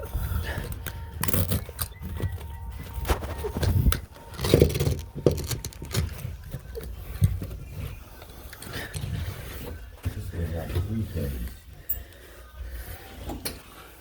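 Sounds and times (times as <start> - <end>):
tools scraping: 0.4 - 12.2.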